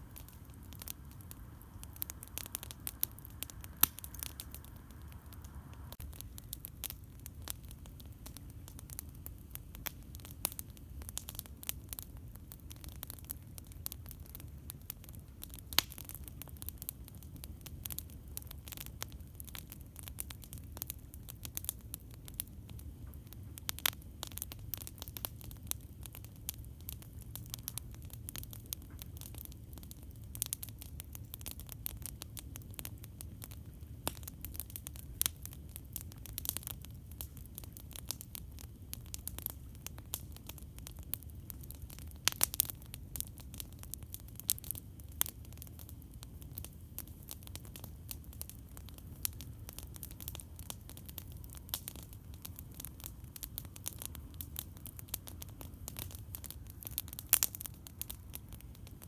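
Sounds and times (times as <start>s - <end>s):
campfire crackling and popping: 0.0s - 59.0s
low steady fire rumble: 0.0s - 59.0s.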